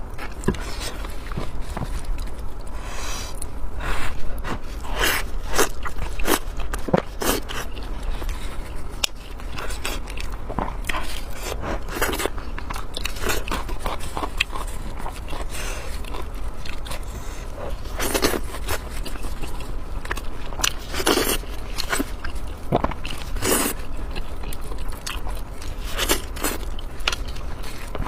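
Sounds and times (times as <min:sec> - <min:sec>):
person biting and chewing food: 0:00.0 - 0:28.0.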